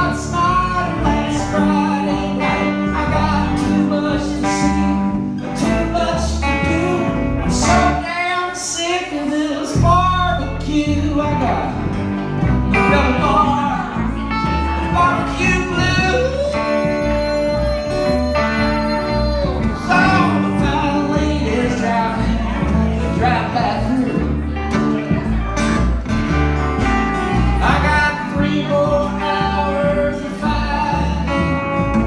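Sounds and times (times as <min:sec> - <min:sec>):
live blues band playing: 0:00.0 - 0:32.0.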